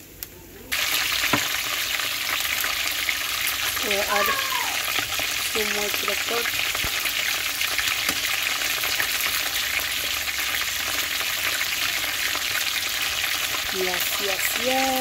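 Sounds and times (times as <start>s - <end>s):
hot oil sizzling: 0.7s - 15.0s.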